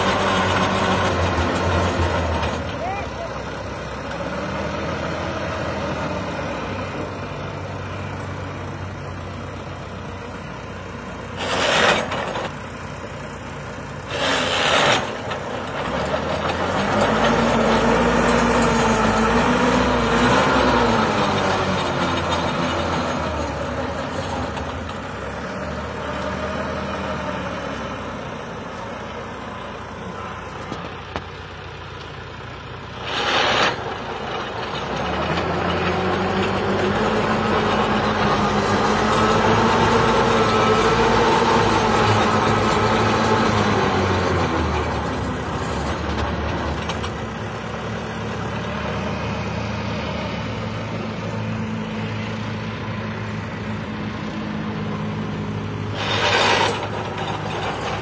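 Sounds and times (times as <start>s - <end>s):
tractor diesel engine: 0.0s - 58.0s.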